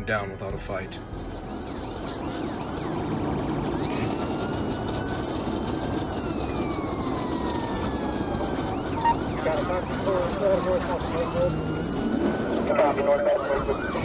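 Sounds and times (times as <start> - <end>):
engine and road noise: 0.0 - 14.0
police siren wailing: 0.0 - 14.0.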